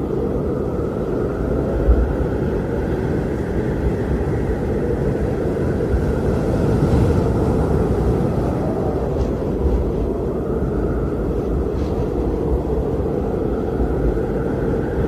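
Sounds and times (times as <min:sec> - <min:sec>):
blizzard wind rushing: 0:00.0 - 0:15.0.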